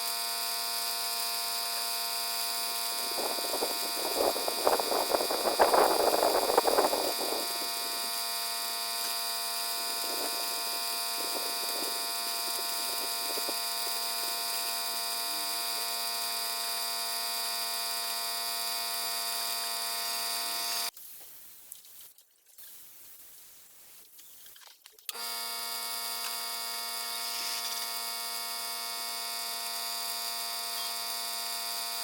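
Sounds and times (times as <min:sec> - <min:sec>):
power tool motor whining: 0:00.0 - 0:20.9, 0:25.1 - 0:32.0.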